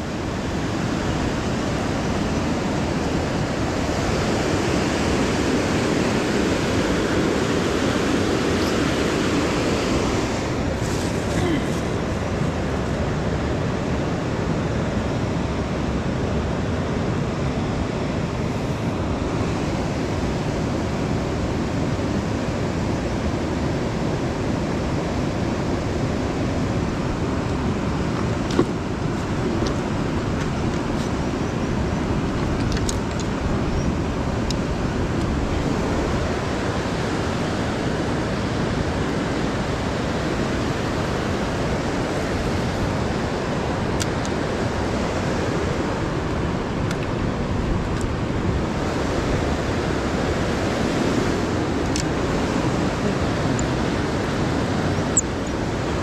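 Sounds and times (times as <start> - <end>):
river rushing over rapids: 0.0 - 56.0.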